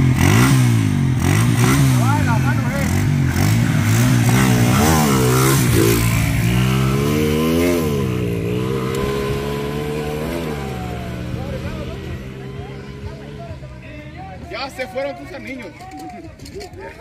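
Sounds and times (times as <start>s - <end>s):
motorcycles accelerating hard: 0.0s - 14.6s.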